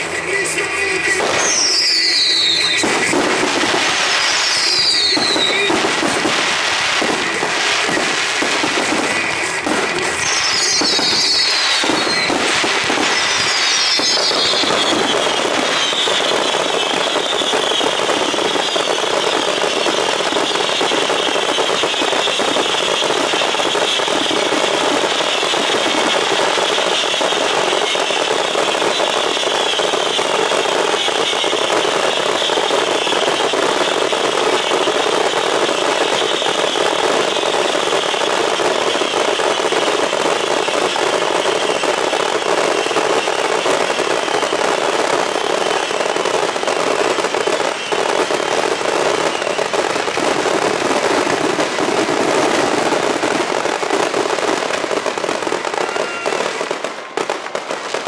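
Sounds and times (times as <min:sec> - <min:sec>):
descending firework whistles: 0:00.0 - 0:58.0
fireworks bursting and crackling: 0:00.0 - 0:58.0.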